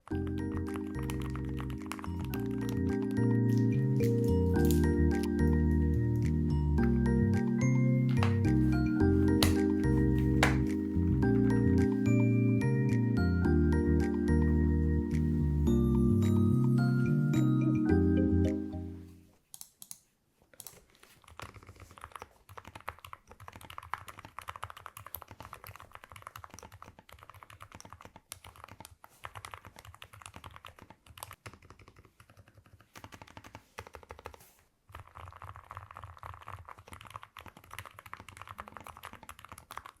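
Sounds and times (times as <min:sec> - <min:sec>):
quiet damped keyboard typing: 0:00.0 - 0:12.3, 0:19.4 - 0:40.0.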